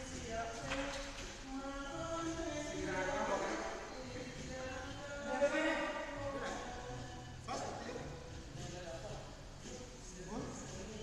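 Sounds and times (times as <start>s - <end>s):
music playing: 0.0s - 11.0s.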